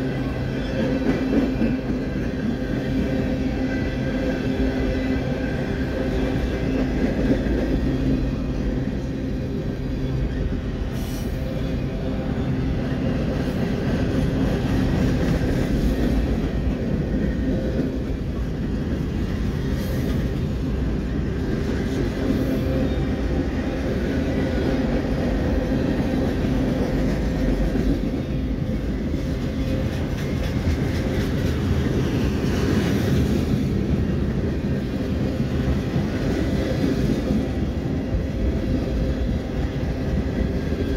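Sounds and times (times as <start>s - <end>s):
freight cars rolling on rails: 0.0s - 40.9s.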